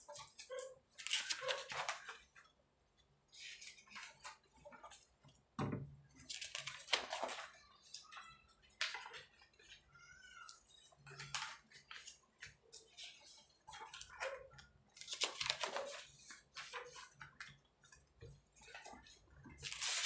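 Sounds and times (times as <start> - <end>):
paper rustling and shuffling: 0.0 - 2.5, 3.3 - 5.4, 6.1 - 9.9, 10.5 - 20.0.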